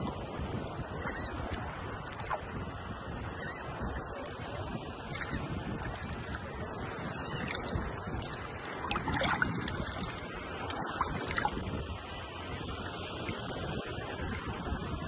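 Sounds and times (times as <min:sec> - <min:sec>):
rushing wind: 0:00.0 - 0:15.0
water noise: 0:00.0 - 0:15.0.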